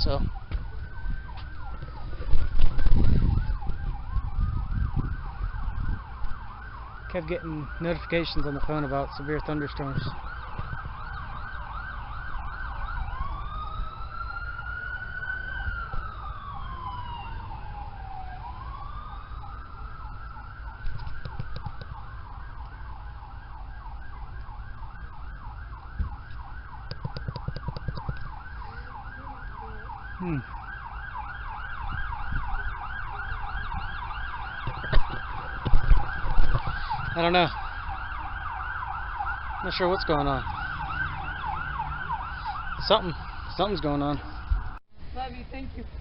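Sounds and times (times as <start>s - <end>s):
siren wail: 0.0s - 44.8s
siren yelp: 0.0s - 44.8s.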